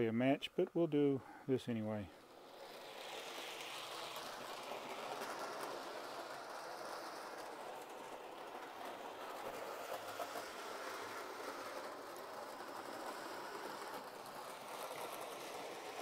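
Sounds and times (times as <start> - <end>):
model train motor whirring: 1.6 - 16.0.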